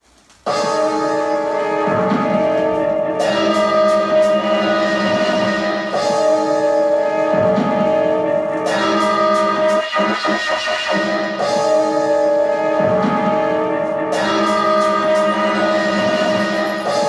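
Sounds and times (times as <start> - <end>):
drum and bass track: 0.2 - 17.0.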